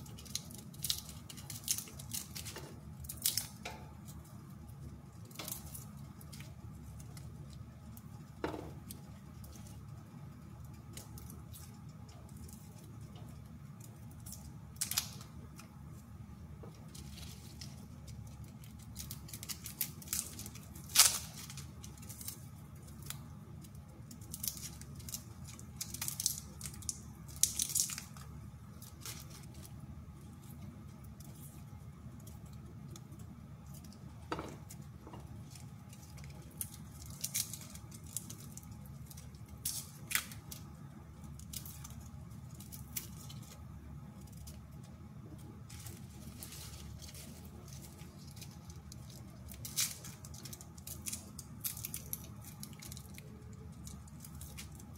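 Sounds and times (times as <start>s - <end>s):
garlic skins crackling and tearing: 0.0s - 54.9s
steady low hum: 0.0s - 54.9s.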